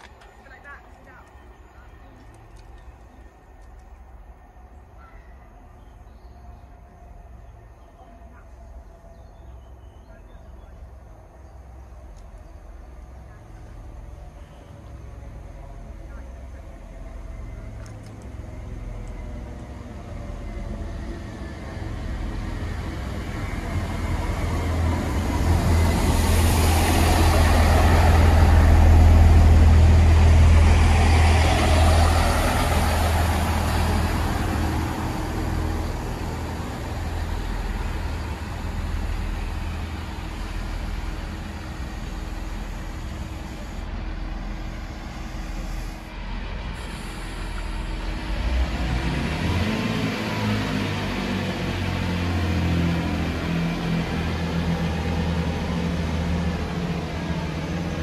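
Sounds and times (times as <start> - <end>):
diesel train passing: 0.0 - 58.0.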